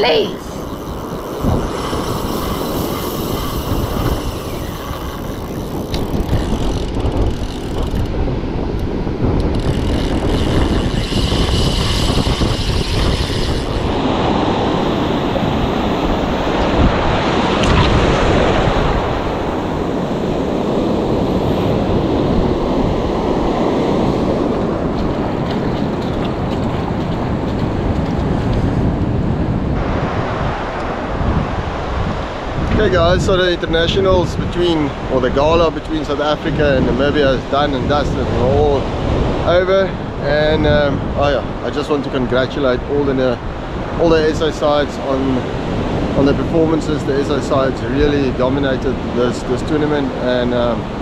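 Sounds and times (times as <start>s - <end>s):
surf breaking on beach: 0.0s - 51.0s
wind buffeting microphone: 0.0s - 51.0s.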